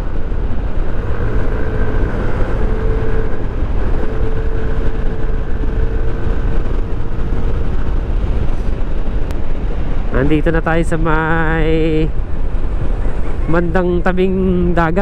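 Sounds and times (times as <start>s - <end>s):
road and wind rumble: 0.0s - 15.0s
scooter engine whine: 0.0s - 15.0s.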